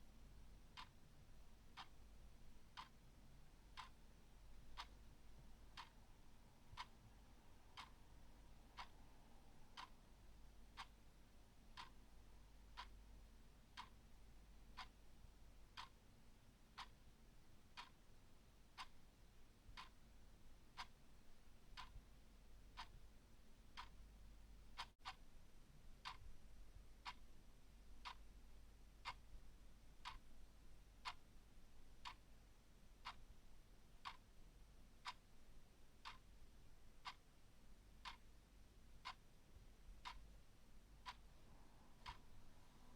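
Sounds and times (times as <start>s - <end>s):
clock ticking faintly: 0.0s - 42.9s.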